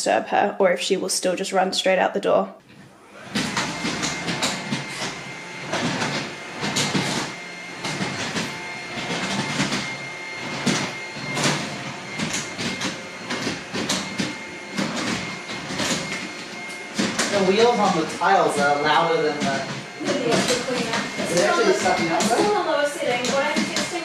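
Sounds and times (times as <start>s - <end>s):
vacuum cleaner whining: 2.6s - 24.0s.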